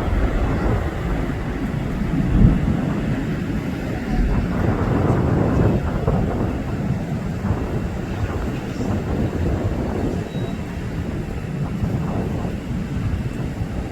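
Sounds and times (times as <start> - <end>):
jet engine rumble: 0.0 - 13.9.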